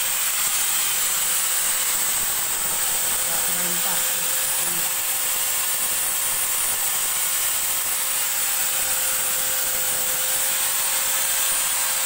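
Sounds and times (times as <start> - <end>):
power tool whirring: 0.0 - 12.0.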